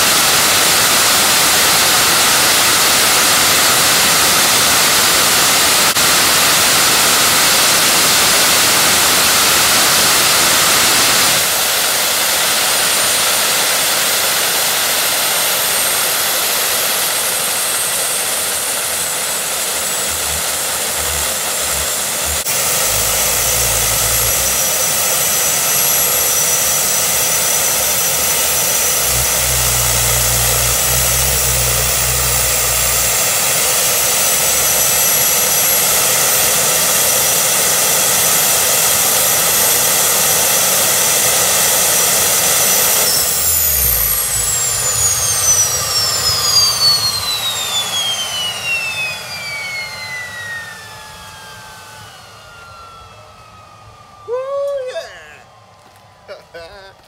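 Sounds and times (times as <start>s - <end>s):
high turbine whine: 0.0s - 57.0s
jet engine roaring: 0.0s - 57.0s.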